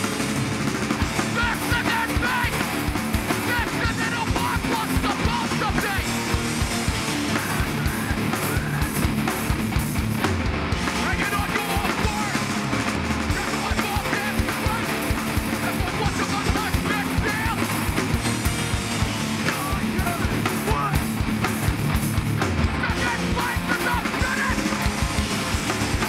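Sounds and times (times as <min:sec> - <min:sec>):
live punk band playing: 0:00.0 - 0:26.0.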